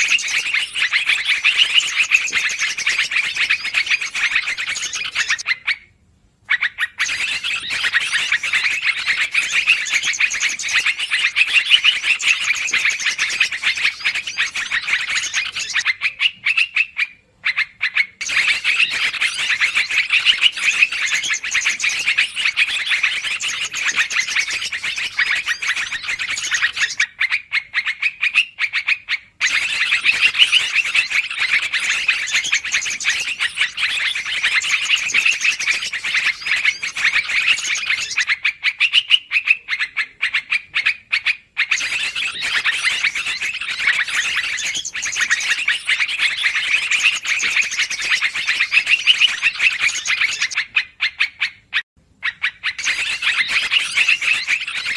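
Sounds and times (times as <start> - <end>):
bird chattering calls: 0.0 - 5.9, 6.5 - 54.9.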